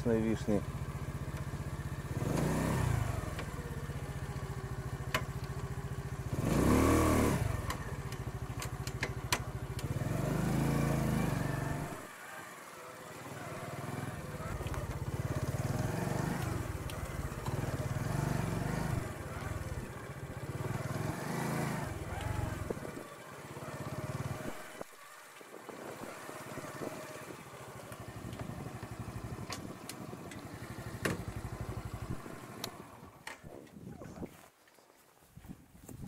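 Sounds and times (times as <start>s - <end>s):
small motorcycle engine: 0.0s - 34.1s.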